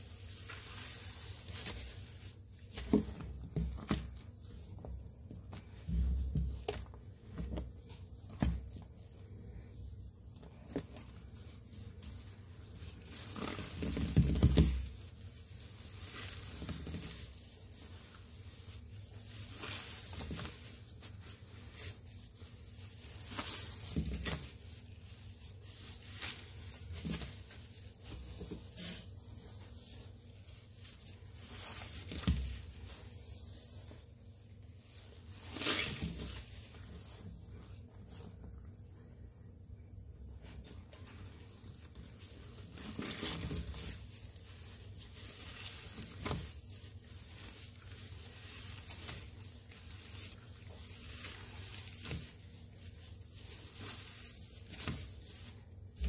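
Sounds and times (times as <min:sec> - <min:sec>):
sponge squishing in foamy paste: 0:00.0 - 0:56.0.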